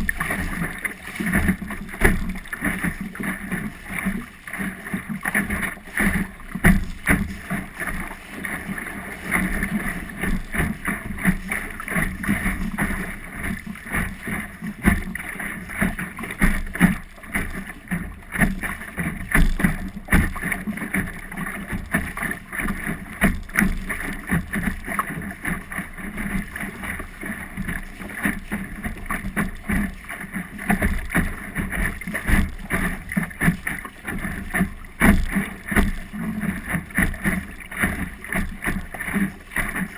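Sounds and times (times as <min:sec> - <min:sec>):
water slapping against hull: 0:00.0 - 0:39.9.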